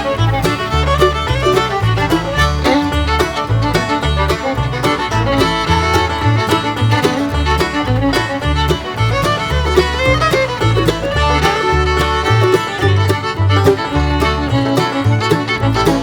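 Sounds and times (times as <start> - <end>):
bluegrass fiddle banjo and guitar: 0.0 - 16.0.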